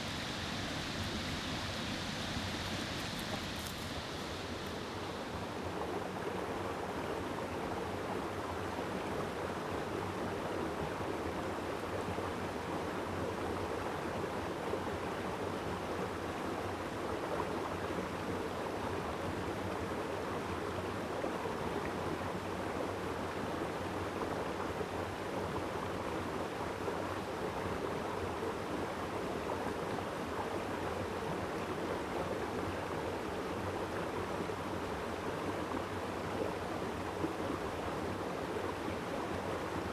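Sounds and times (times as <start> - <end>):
stream rushing water: 0.0 - 39.9.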